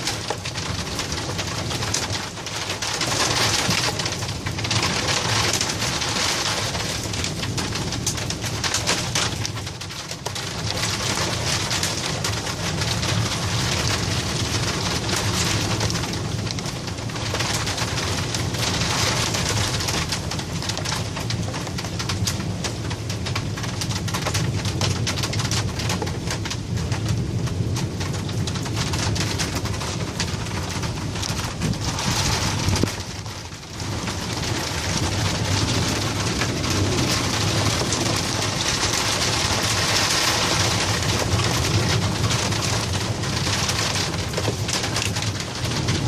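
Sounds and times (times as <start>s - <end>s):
heavy rain and hail pelting: 0.0s - 46.0s.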